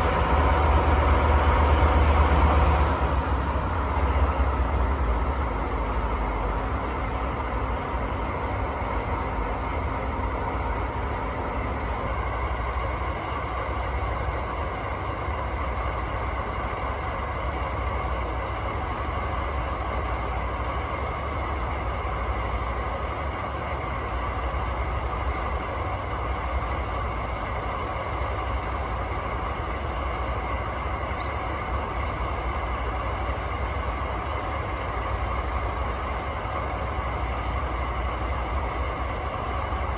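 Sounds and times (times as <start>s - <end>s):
diesel locomotive engines idling: 0.0s - 39.9s.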